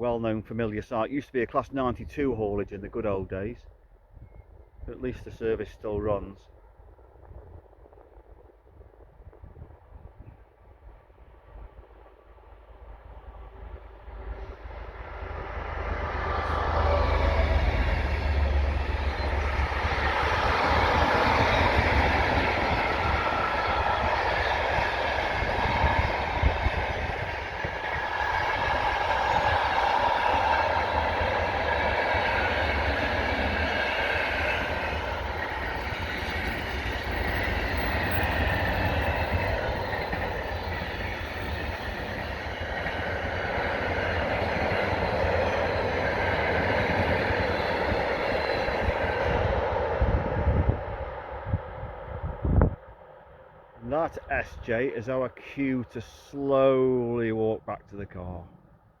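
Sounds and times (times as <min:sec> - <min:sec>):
freight train passing: 0:00.0 - 0:58.8.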